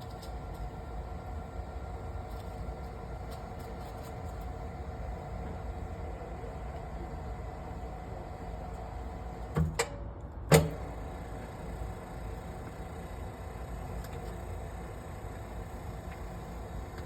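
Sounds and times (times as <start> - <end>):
welding positioner humming: 0.0 - 9.9, 10.5 - 17.0.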